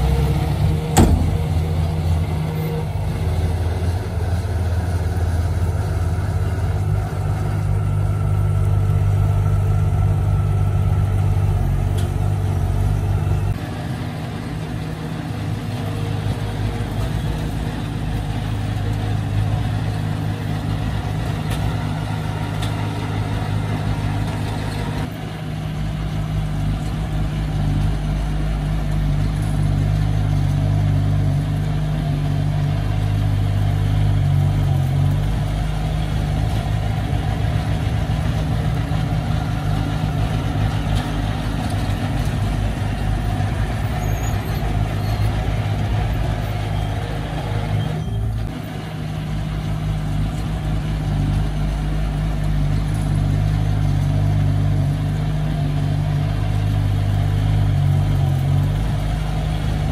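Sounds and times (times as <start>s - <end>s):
bulldozer pushing dirt: 0.0s - 59.9s
dump truck unloading dirt: 0.0s - 59.9s
heavy diesel engine running: 0.0s - 59.9s.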